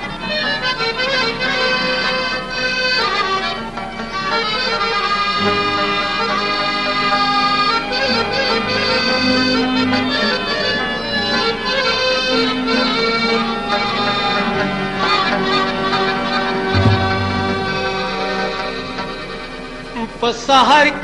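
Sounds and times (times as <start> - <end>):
harmonium playing slow melody: 0.0 - 20.2.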